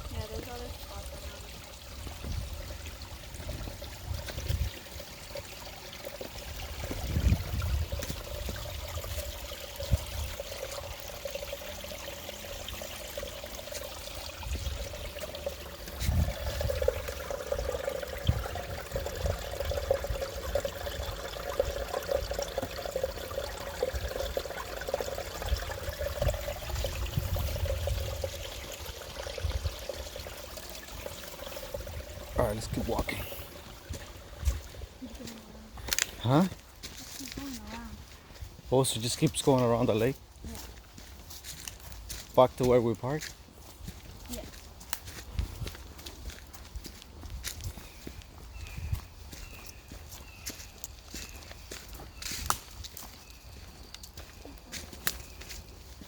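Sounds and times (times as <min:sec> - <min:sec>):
water trickling and pouring: 0:00.0 - 0:56.0.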